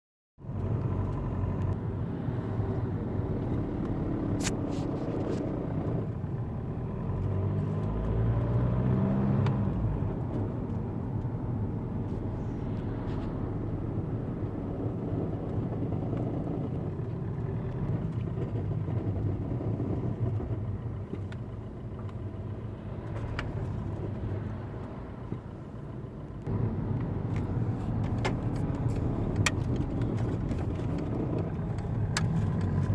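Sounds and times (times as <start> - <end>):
diesel engine running: 0.4 - 32.9.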